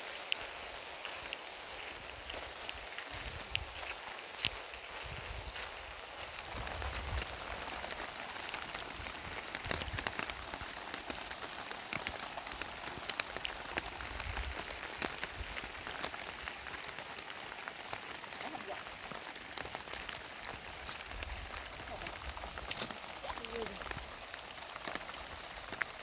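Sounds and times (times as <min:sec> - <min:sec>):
heavy rain falling: 0:00.0 - 0:26.0
sharp raindrop impacts: 0:00.0 - 0:26.0.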